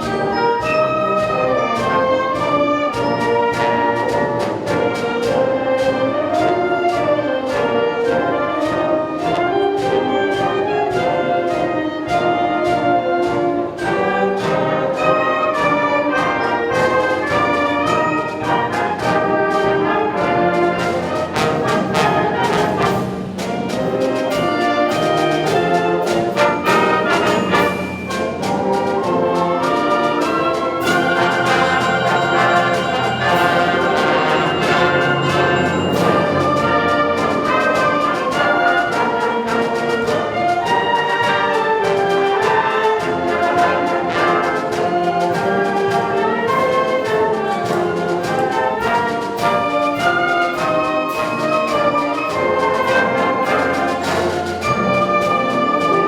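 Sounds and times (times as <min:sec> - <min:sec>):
sharp percussion strikes: 0:00.0 - 0:56.0
wind orchestra with brass: 0:00.0 - 0:56.0.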